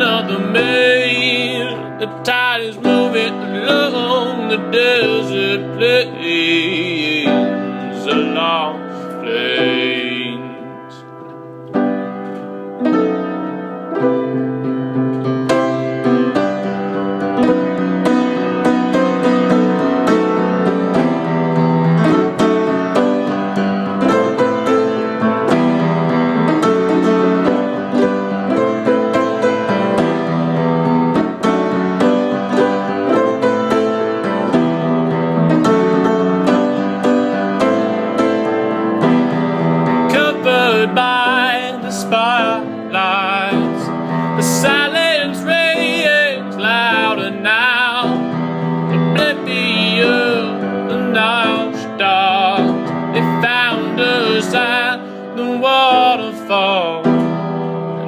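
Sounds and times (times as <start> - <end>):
piano playing chords and melody: 0.0 - 58.0.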